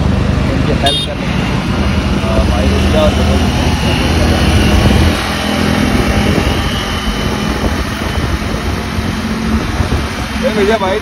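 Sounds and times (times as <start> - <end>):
motorcycle engines running: 0.0 - 11.0
wind rushing over microphone: 1.4 - 11.0.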